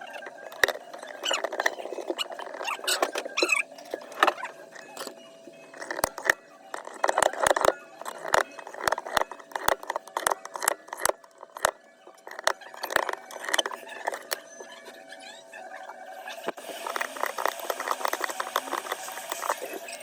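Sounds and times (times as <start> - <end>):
metal tools clicking on phone: 0.0 - 14.4, 16.5 - 20.0.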